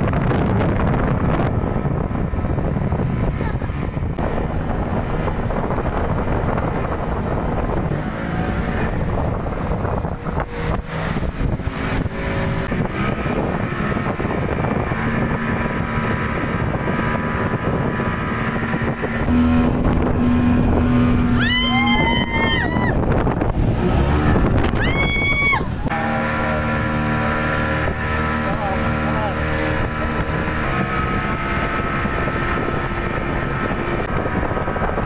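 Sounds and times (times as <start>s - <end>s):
outboard motor running: 0.0s - 35.0s
water rushing past hull: 0.0s - 35.0s
wind buffeting microphone: 0.0s - 35.0s.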